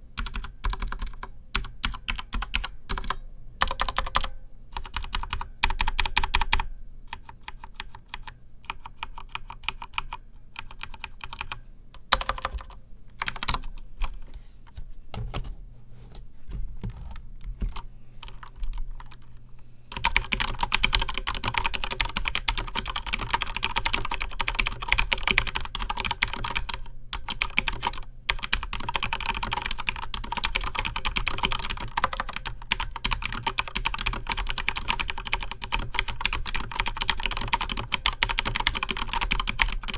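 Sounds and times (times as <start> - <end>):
mechanical keyboard typing: 0.2 - 13.8, 19.9 - 39.9.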